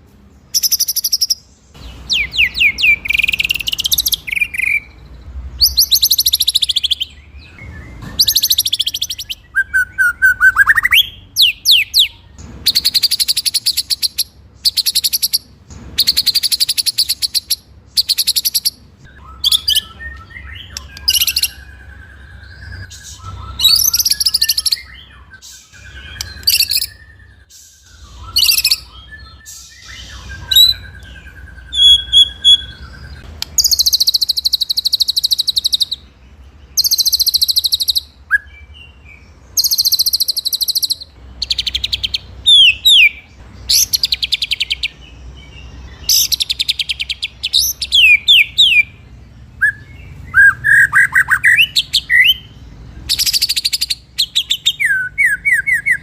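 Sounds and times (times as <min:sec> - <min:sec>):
bird singing trills and whistles: 0:00.5 - 0:56.0.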